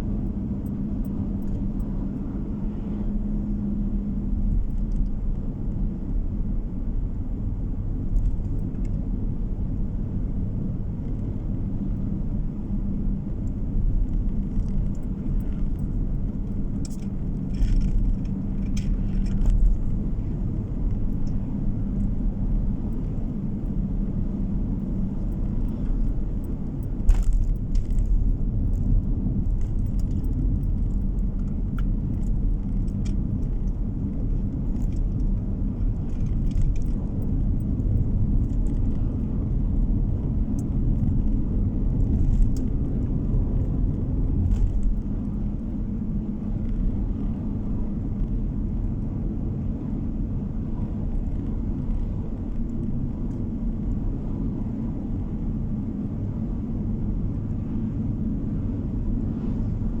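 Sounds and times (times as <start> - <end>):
tyre and engine rumble: 0.0 - 60.0.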